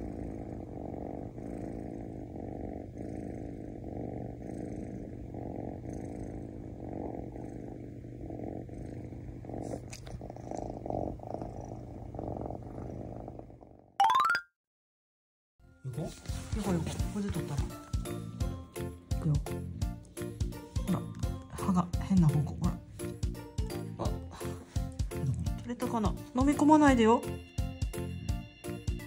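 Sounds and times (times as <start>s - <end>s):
kitten purring: 0.0s - 14.0s, 16.5s - 29.0s.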